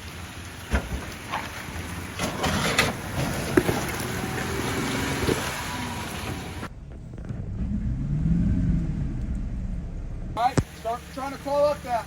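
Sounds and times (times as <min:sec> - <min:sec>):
jeep engine running at low speed: 0:00.0 - 0:12.0
rain falling: 0:00.0 - 0:12.0.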